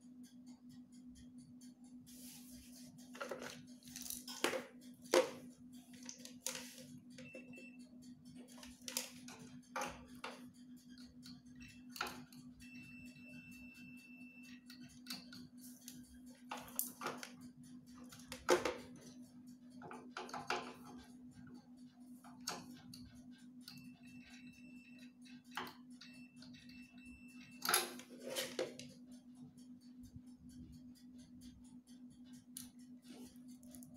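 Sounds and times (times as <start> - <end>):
scattered clicks: 0.0 - 33.9.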